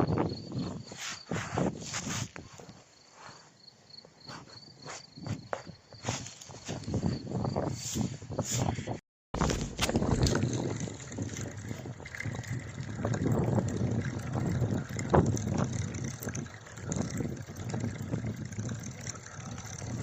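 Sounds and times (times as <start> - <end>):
wind buffeting microphone: 0.0 - 2.4, 6.0 - 20.0.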